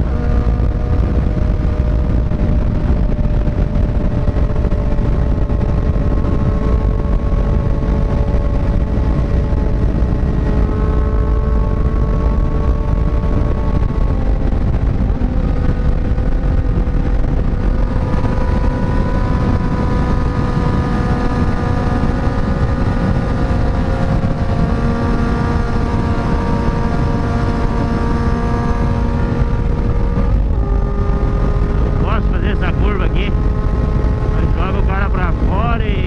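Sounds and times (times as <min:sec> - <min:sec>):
motorcycle engine cruising: 0:00.0 - 0:36.0
wind rumble on microphone: 0:00.0 - 0:36.0.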